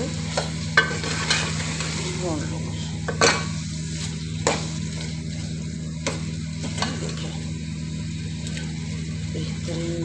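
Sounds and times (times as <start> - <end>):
meat sizzling in oil: 0.0 - 9.3.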